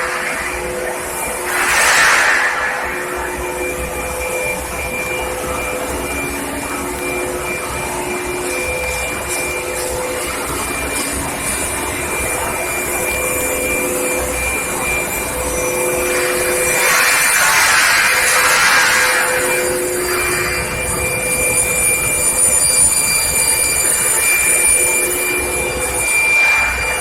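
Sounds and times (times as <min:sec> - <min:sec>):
electrical hum: 0:00.0 - 0:27.0
machine tones: 0:00.0 - 0:27.0
whirring machine noise: 0:00.0 - 0:27.0.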